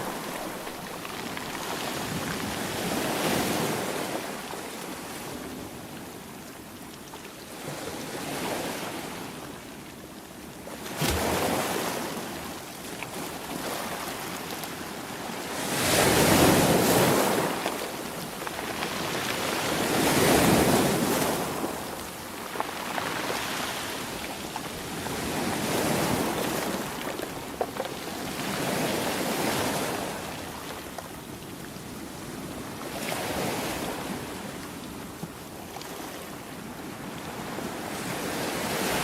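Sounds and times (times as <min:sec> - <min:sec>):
ocean waves breaking on shore: 0:00.0 - 0:06.3, 0:10.7 - 0:39.0.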